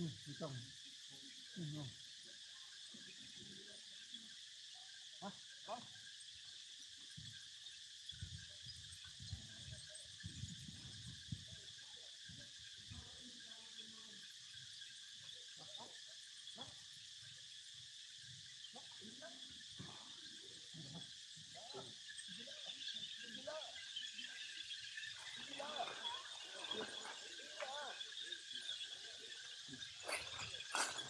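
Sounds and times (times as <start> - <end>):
high drone of insects: 0.0 - 31.0.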